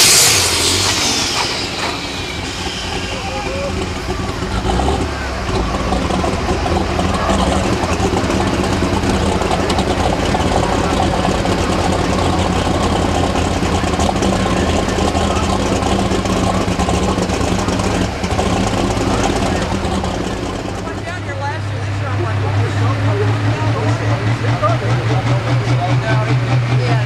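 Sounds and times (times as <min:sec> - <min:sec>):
tractor engine running loud: 0:00.0 - 0:27.0.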